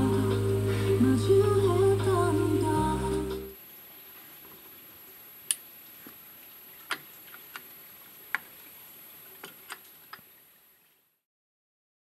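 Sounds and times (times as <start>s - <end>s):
faint steady hiss: 0.0s - 11.3s.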